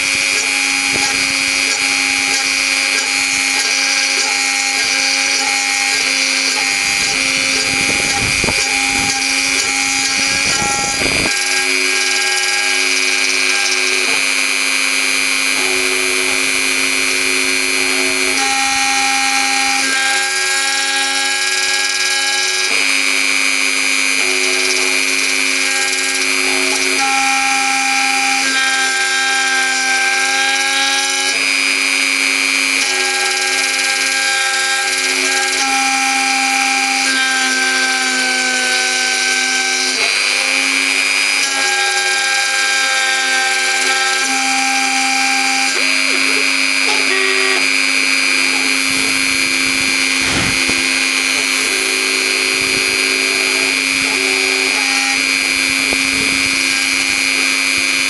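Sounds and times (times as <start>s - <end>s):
router spindle whining cutting wood: 0.0s - 58.0s.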